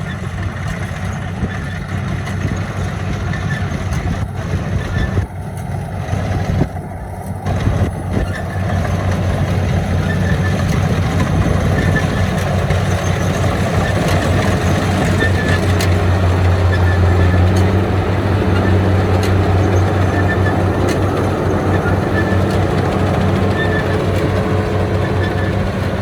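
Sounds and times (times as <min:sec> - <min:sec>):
harvester engine humming: 0:00.0 - 0:26.0.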